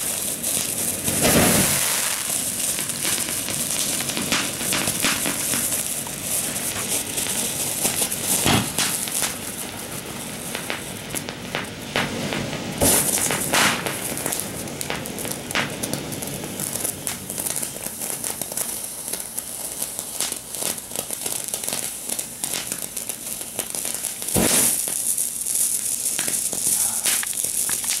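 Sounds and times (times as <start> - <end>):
firework crackling: 0.0 - 28.0
firework sparks hissing: 0.0 - 28.0.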